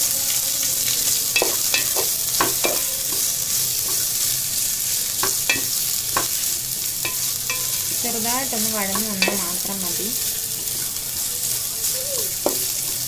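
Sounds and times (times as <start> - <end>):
vegetables sizzling in hot oil: 0.0 - 13.0
spoon scraping and knocking pan: 1.3 - 11.3, 12.4 - 13.0.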